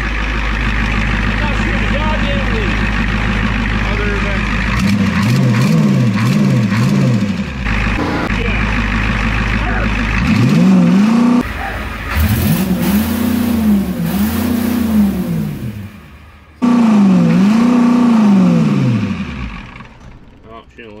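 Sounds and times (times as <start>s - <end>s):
diesel engine revving: 0.0s - 20.8s.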